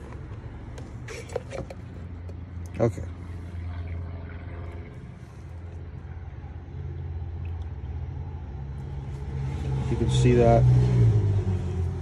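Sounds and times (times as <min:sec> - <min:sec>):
low mechanical rumble: 0:00.0 - 0:10.6.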